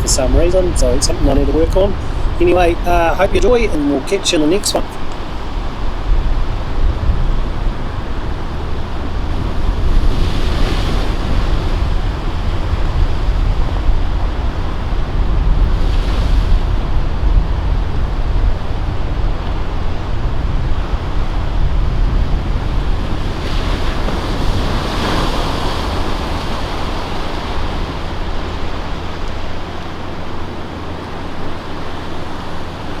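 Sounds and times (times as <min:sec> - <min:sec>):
ocean surf washing: 0:00.0 - 0:33.0
waves breaking: 0:00.0 - 0:33.0
wind rumble on microphone: 0:00.0 - 0:33.0.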